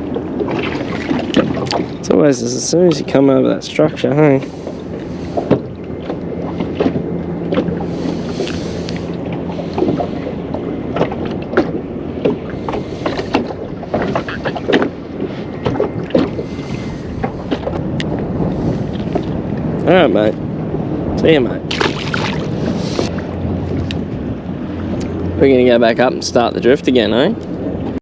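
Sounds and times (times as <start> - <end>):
water against boat hull: 0.0 - 28.0
wind on microphone: 0.0 - 28.0.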